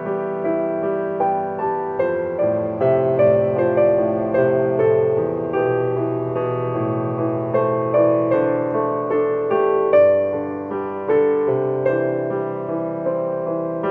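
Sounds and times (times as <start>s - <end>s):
slow gentle piano melody: 0.0s - 13.9s.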